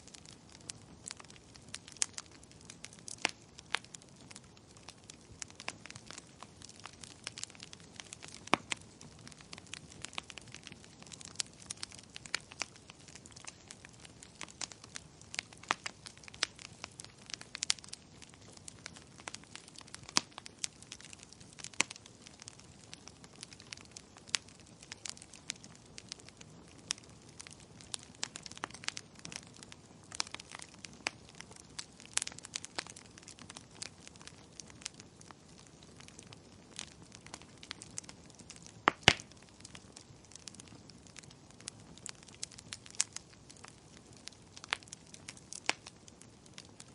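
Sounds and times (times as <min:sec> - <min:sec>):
fire popping and snapping: 0:00.0 - 0:46.9
wood fire crackling: 0:00.0 - 0:46.9.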